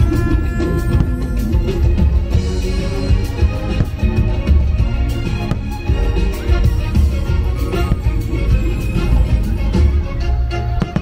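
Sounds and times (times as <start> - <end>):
loud soundtrack music with bass: 0.0 - 11.0.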